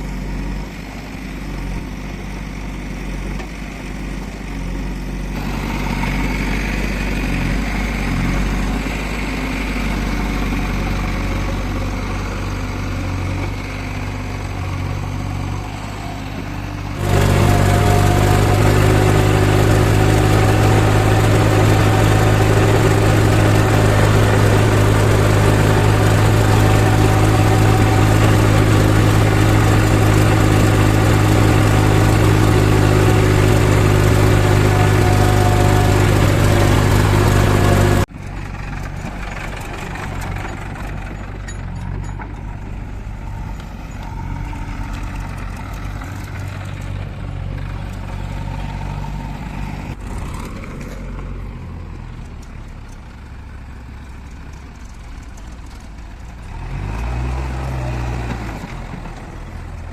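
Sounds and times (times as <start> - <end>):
distant engine: 0.0 - 59.9
heavy machinery diesel engine running: 0.0 - 59.9.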